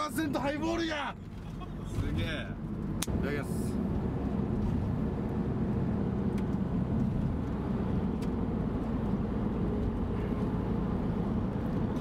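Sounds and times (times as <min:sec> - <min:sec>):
car interior engine and road noise: 0:00.0 - 0:12.0.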